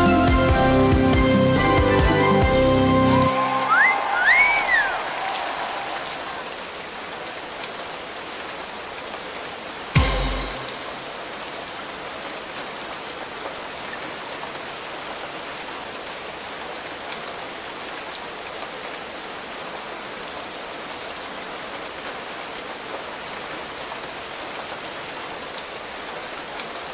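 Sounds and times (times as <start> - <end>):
steady rain hiss: 3.1 - 26.9.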